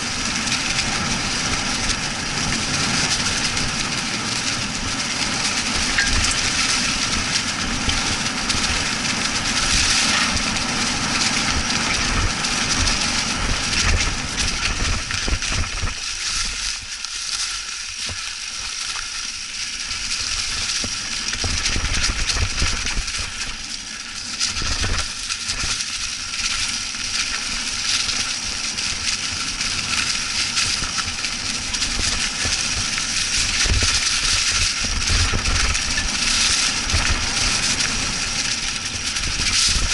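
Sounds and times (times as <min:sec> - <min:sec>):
bike rattling on rough trail: 0:00.0 - 0:39.9
bike tyres crunching through leaves: 0:00.0 - 0:39.9.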